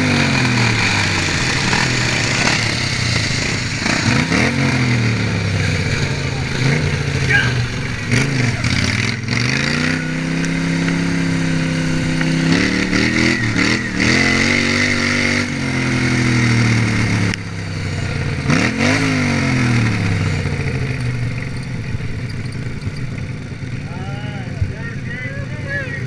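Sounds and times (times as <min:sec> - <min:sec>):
lawnmower engine at full throttle: 0:00.0 - 0:26.0.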